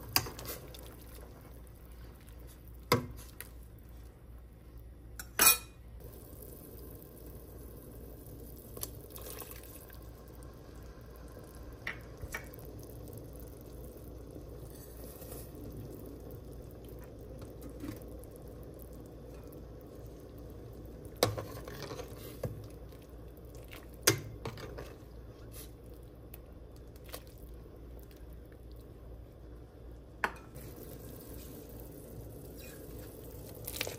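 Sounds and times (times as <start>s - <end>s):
pot boiling: 0.0s - 33.9s.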